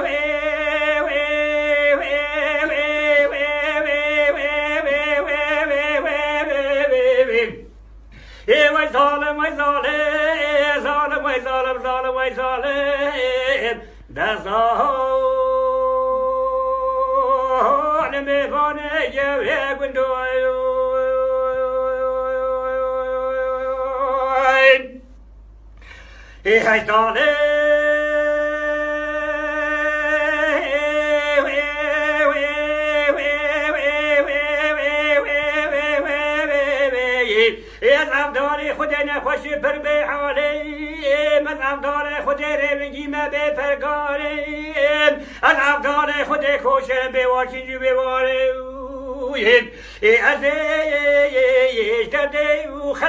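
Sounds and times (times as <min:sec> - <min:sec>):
man singing unaccompanied lament: 0:00.0 - 0:25.1, 0:26.4 - 0:53.0.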